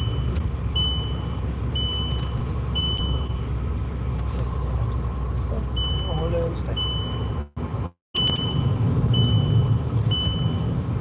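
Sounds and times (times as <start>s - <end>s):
car interior rumble and road noise: 0.0s - 11.0s.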